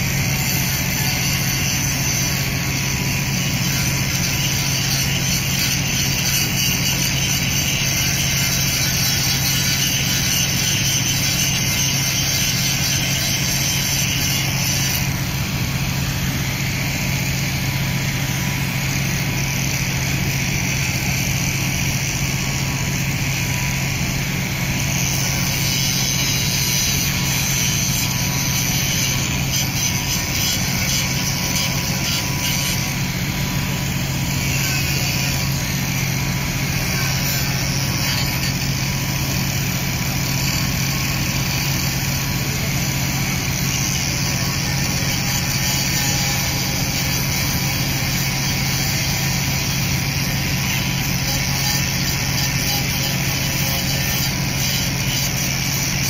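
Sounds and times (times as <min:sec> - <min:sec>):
ferry diesel engines droning: 0:00.0 - 0:56.0.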